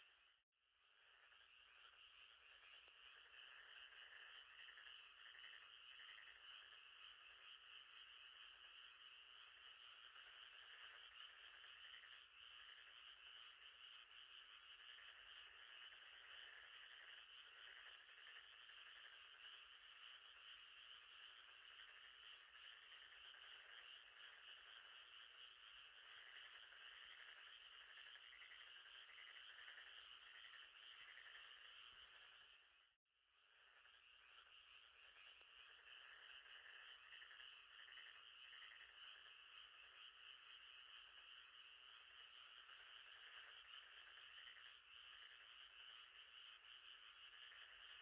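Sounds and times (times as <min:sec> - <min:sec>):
frogs trilling: 0:00.0 - 0:48.0.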